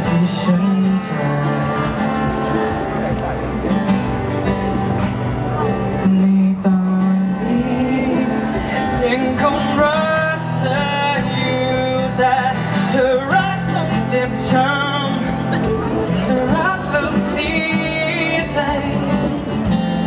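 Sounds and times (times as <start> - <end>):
man singing: 0.0 - 2.6, 5.6 - 20.0
acoustic guitar: 0.0 - 20.0.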